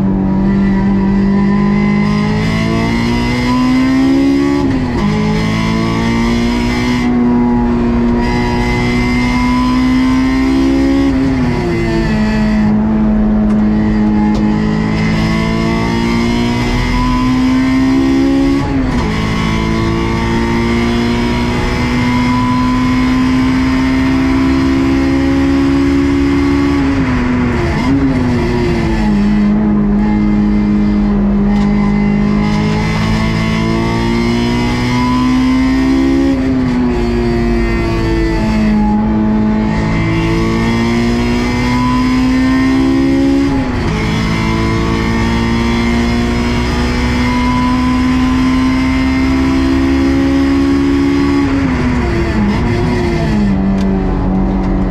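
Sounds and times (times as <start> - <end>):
car engine revving hard: 0.0 - 54.9.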